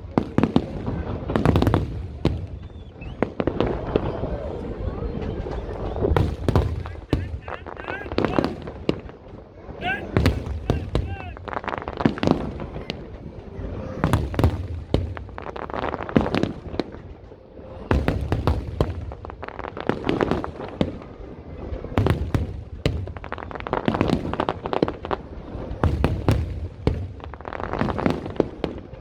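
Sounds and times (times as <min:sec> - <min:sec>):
fireworks booming: 0:00.0 - 0:13.2, 0:14.0 - 0:17.1, 0:17.8 - 0:21.0, 0:21.6 - 0:29.0
fireworks cracking and popping: 0:00.0 - 0:29.0.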